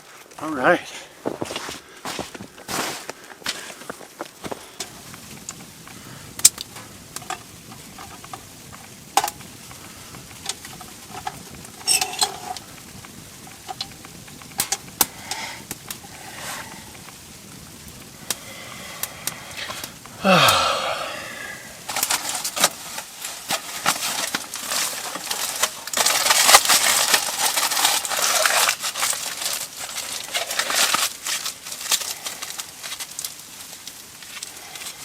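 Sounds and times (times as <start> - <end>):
foil crinkling: 1.1 - 17.4, 18.1 - 35.0.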